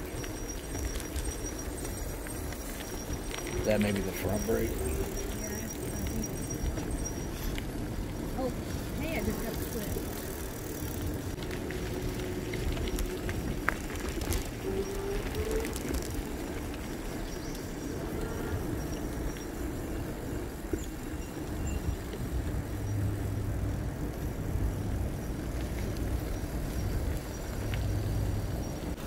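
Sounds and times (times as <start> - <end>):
rolling noise: 0.0 - 29.0.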